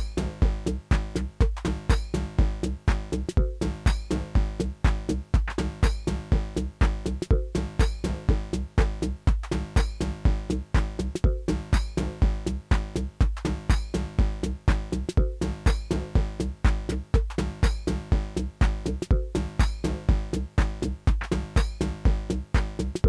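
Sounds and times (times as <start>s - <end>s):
looping synth bass line: 0.0s - 23.0s
techno beat with kick drum: 0.0s - 23.0s.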